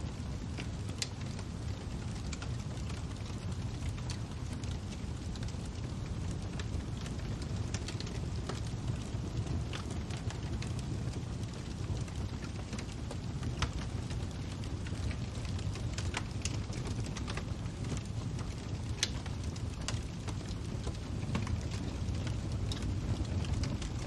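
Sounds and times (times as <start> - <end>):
fire popping and snapping: 0.0 - 24.0
flames rumbling: 0.0 - 24.0.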